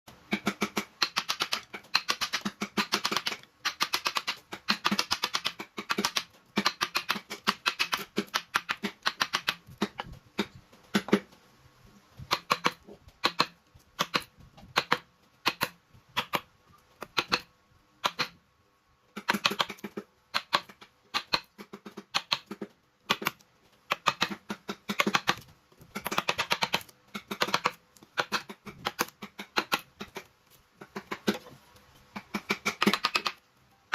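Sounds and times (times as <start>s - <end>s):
rapid light tapping and clicking: 0.1s - 18.4s, 19.1s - 33.9s.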